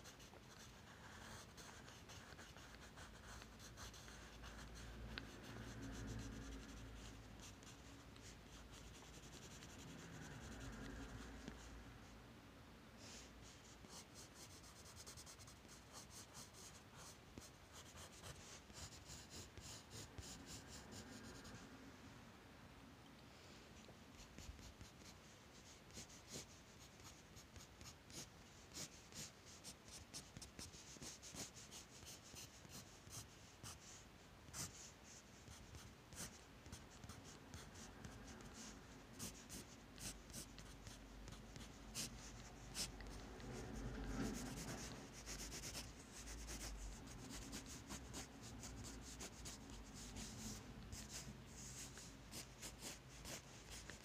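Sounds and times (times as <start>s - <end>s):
pencil scratching on paper: 0.0s - 11.7s, 13.8s - 21.6s, 24.3s - 33.9s, 34.5s - 54.0s.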